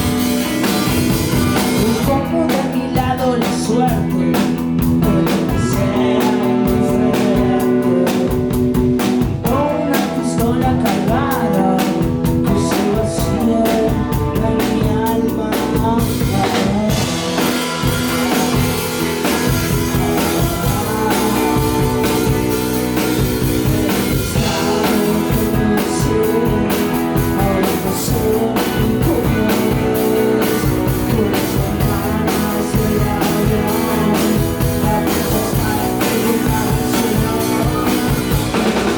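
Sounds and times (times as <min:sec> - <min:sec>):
live rock band: 0:00.0 - 0:38.9
person singing: 0:00.0 - 0:38.9.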